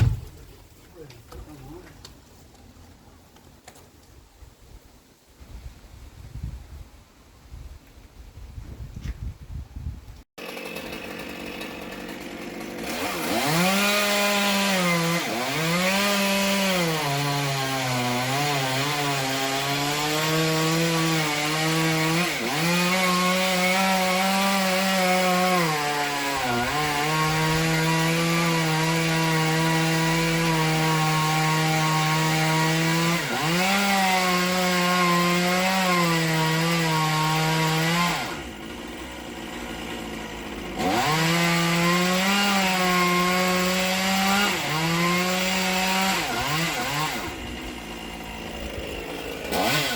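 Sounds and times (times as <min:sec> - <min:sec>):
chainsaw cutting wood: 0:00.0 - 0:00.5, 0:10.4 - 0:49.9.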